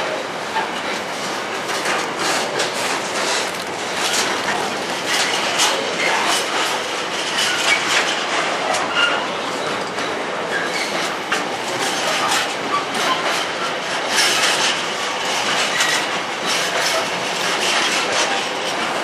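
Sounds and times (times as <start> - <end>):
train wheels rumbling on rails: 0.0 - 19.0
wheels clacking and knocking: 0.5 - 19.0.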